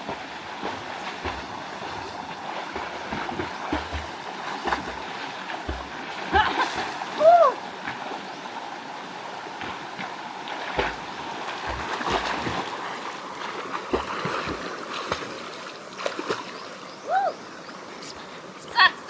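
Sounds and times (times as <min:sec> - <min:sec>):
river water splashing: 0:00.0 - 0:19.0.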